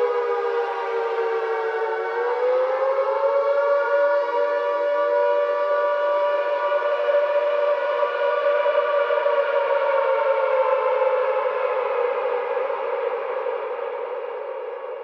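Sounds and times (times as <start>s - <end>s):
siren-like tone over loudspeakers: 0.0s - 14.5s.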